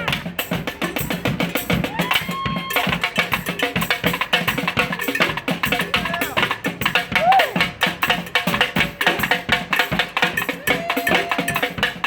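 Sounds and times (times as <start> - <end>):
brass band drums fast beat: 0.0 - 12.0.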